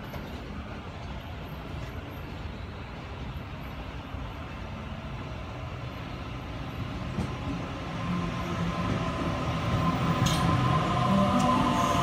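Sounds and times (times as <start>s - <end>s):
electric train pulling in: 0.0s - 12.0s.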